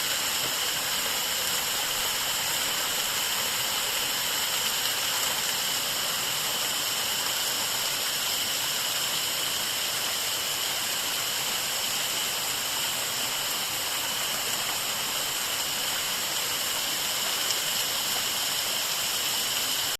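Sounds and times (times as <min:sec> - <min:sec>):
waterfall roar: 0:00.0 - 0:19.9.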